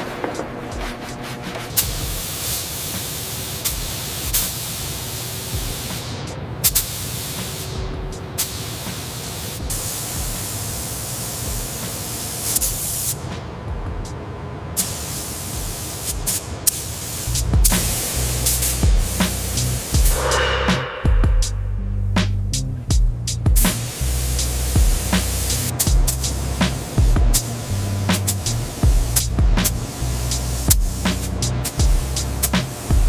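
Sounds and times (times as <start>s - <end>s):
spray gun hissing: 0.0s - 7.8s, 8.4s - 13.2s, 14.8s - 21.8s, 23.7s - 33.0s.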